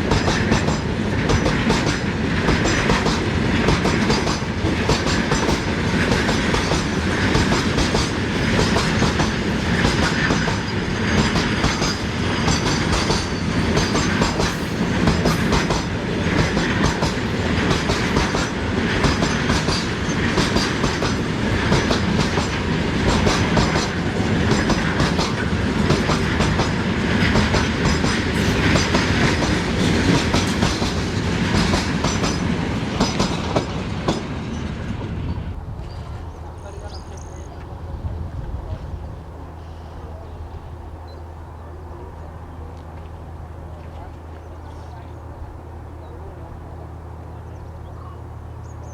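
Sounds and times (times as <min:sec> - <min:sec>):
train wheels clattering over rails: 0:00.0 - 0:41.0.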